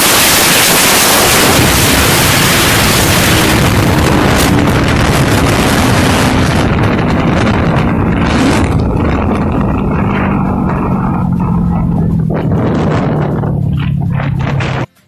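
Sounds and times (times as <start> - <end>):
wind rush on microphone: 0.0 - 14.9
motorcycle engine running: 0.8 - 15.0.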